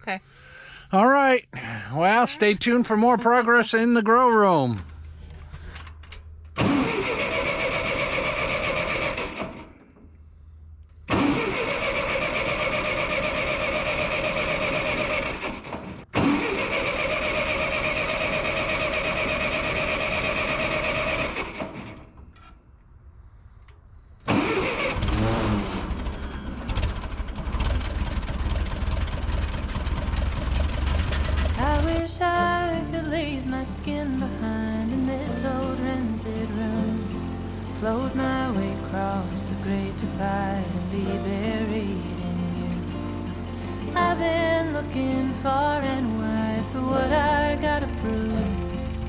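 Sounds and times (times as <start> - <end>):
tractor engine running: 0.0 - 22.6, 24.2 - 49.0
starter motor cranking: 4.8 - 10.2, 10.8 - 22.4, 24.2 - 34.0, 34.9 - 49.0.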